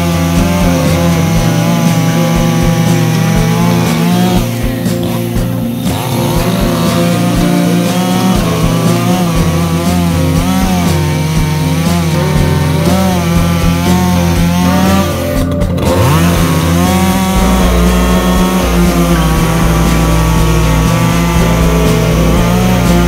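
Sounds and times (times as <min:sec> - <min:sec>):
chainsaw cutting: 0:00.0 - 0:23.0.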